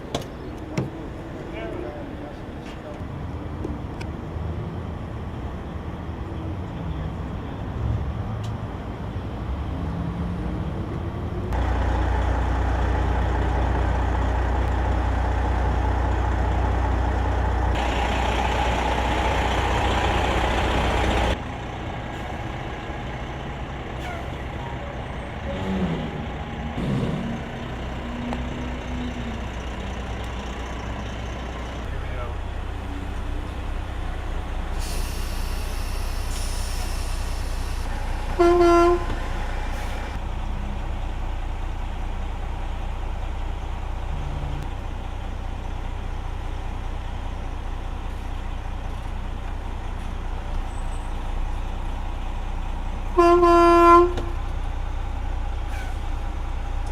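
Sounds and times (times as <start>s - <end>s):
truck diesel engine drone: 0.0s - 56.9s.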